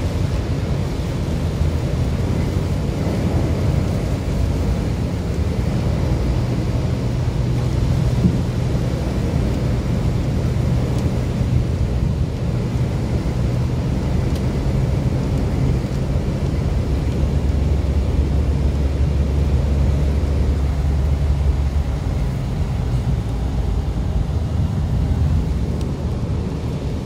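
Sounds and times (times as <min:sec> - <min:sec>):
tyre and engine rumble: 0:00.0 - 0:27.0
wet road spray hiss: 0:00.0 - 0:27.0.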